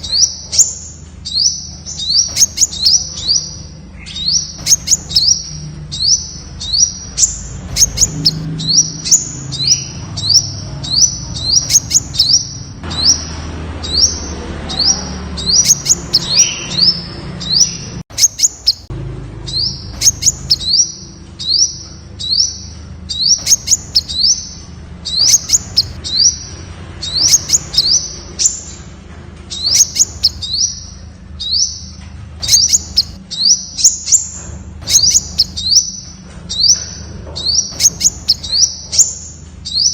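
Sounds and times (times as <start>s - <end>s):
bird calling high sharp notes: 0.0s - 18.9s, 19.5s - 28.8s, 29.5s - 36.9s, 37.5s - 39.9s.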